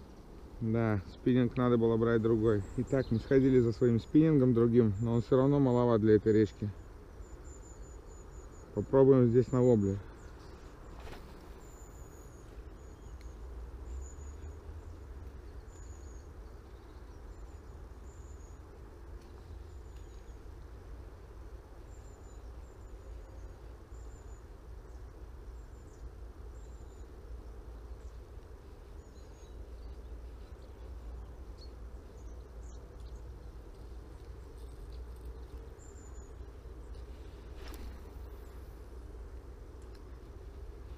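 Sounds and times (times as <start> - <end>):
bird chirping: 0.0 - 20.5, 21.8 - 38.7.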